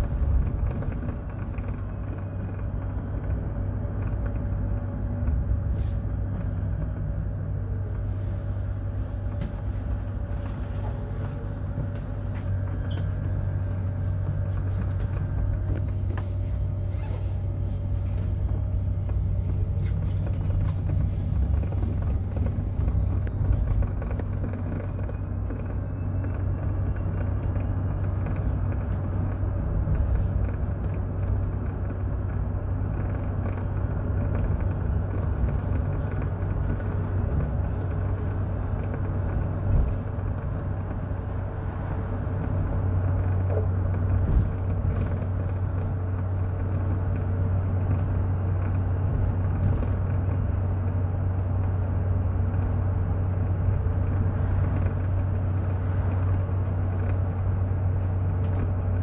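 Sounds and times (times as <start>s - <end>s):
bus running gear and road rumble: 0.0s - 59.0s
faint whine: 0.0s - 59.0s.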